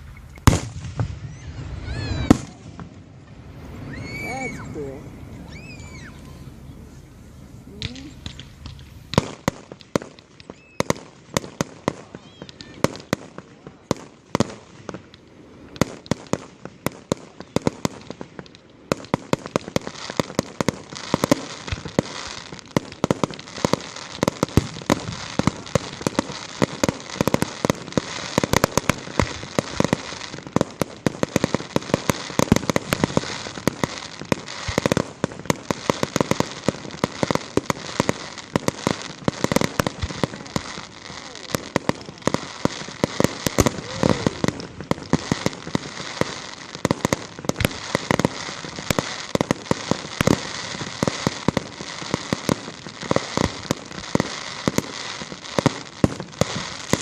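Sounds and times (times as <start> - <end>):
fireworks bangs: 0.0 - 57.0
fireworks crackle: 0.0 - 57.0.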